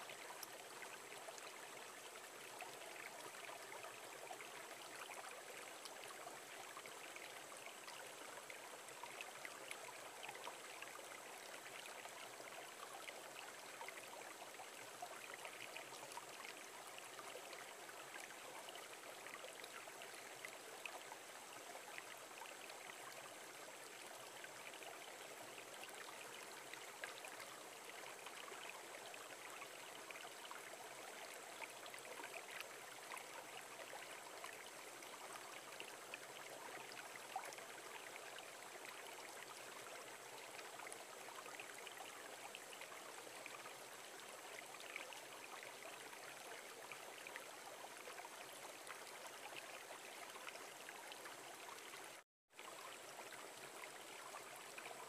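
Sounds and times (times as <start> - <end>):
stream babbling over pebbles: 0.0 - 55.0.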